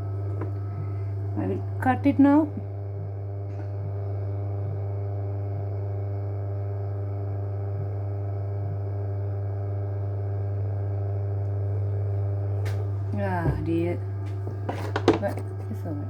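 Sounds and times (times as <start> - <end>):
pottery wheel motor humming: 0.0 - 16.0.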